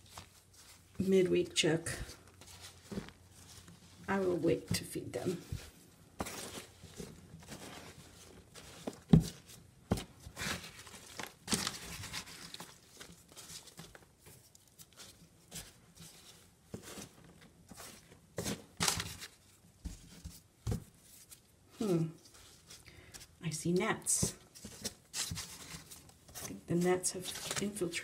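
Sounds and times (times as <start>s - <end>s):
damp cardboard rustling: 0.0s - 1.1s, 2.0s - 23.3s.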